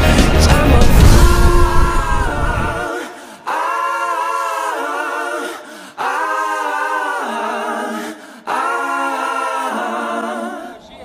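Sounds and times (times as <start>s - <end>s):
voices singing sustained chords: 0.0s - 11.0s.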